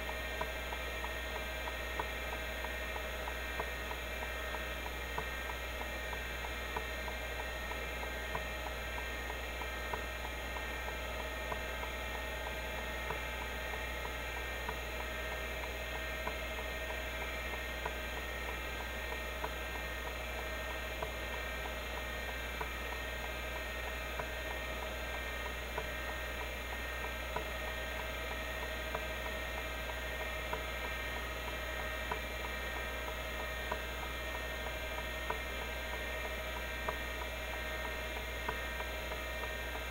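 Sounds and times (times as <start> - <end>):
hard drive head ticking: 0.0 - 39.9
hard drive hum and whine: 0.0 - 39.9.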